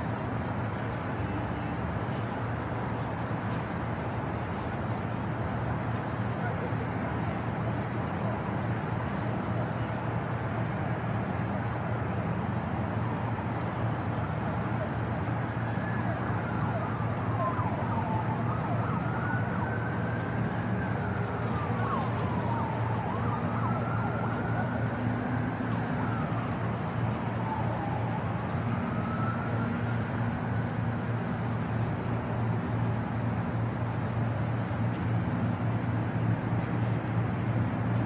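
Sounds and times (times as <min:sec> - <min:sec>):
road traffic hum: 0:00.0 - 0:38.0
faint siren wailing: 0:00.5 - 0:38.0.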